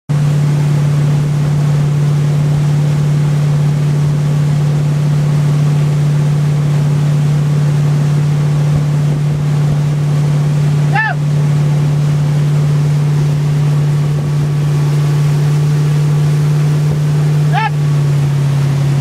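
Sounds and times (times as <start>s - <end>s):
boat engine droning: 0.1s - 19.0s
wake and spray rushing: 0.1s - 19.0s.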